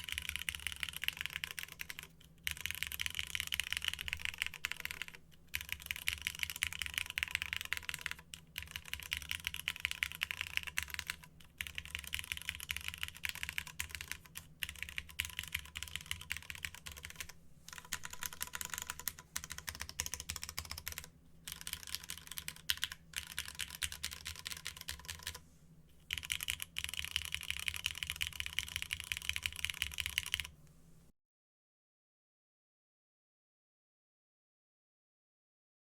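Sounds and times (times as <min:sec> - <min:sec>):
fast typing on mechanical keyboard: 0:00.0 - 0:25.4, 0:26.1 - 0:30.6.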